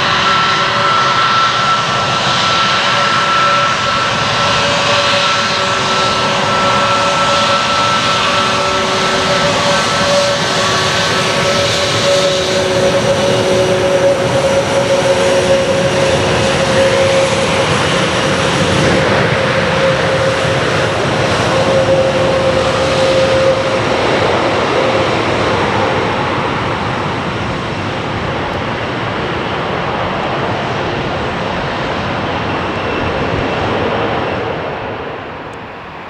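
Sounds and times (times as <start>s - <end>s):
jet engine rush: 0.0s - 36.0s
jet engine whine: 0.0s - 36.0s.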